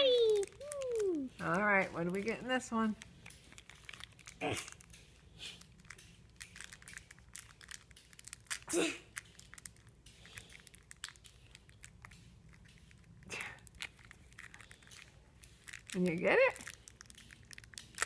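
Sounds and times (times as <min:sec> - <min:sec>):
foil wrapper crinkling: 0:00.0 - 0:18.0.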